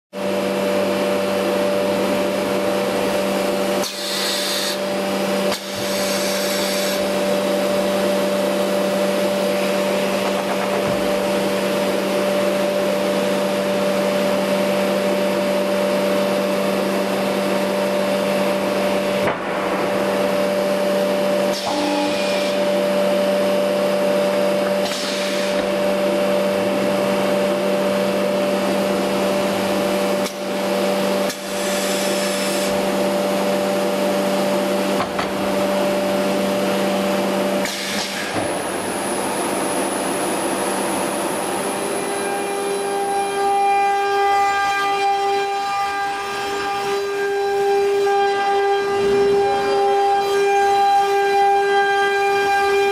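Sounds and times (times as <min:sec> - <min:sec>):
vacuum system drone: 0:00.2 - 0:52.9.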